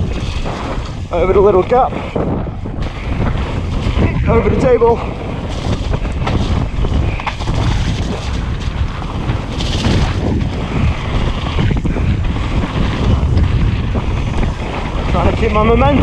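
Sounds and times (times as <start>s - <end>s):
bike knocking and rattling: 0.0s - 16.0s
tyres rolling over dirt: 0.0s - 16.0s
wind rushing over microphone: 0.0s - 16.0s.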